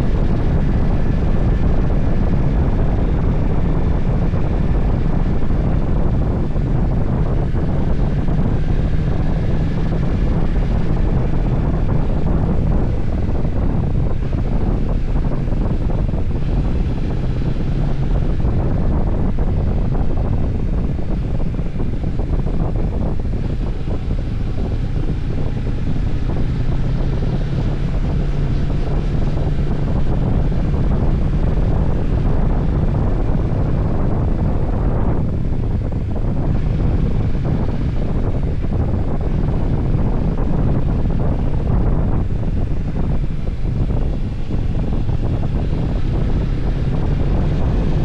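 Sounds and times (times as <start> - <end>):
motorcycle engine drone: 0.0 - 48.0
wind rushing over microphone: 0.0 - 48.0.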